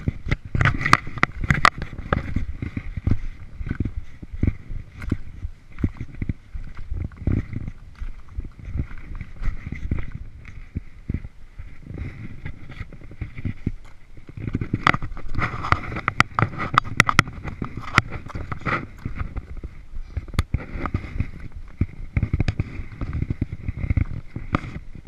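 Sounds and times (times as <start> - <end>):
hands and boots scuffing on rock: 0.0 - 24.9
gear rubbing against camera: 0.0 - 25.0.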